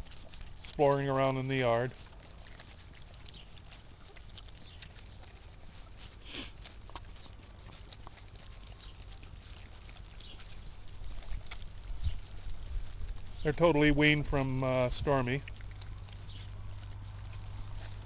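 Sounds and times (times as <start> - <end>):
rustling on grass: 0.0 - 18.0.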